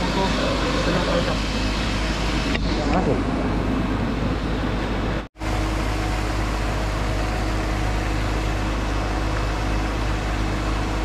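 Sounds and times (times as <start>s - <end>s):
aerator motor hum: 0.0s - 11.0s.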